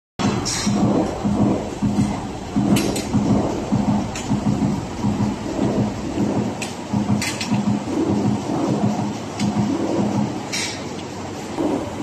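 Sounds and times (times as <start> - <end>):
sausage filler machine rumbling: 0.2 - 10.5.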